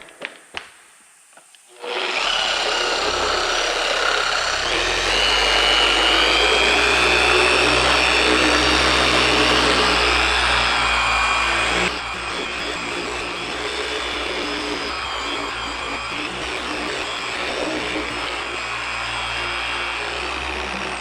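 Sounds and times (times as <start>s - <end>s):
polisher running: 1.7s - 21.0s.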